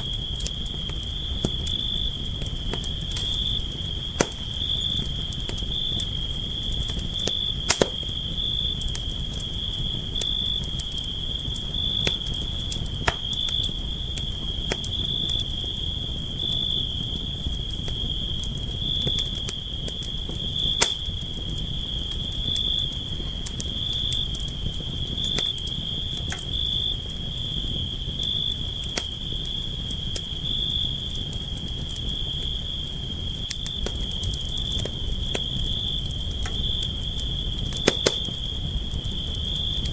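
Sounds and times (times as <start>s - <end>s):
campfire flames rumbling: 0.0s - 39.9s
fire crackling and popping: 0.0s - 39.9s.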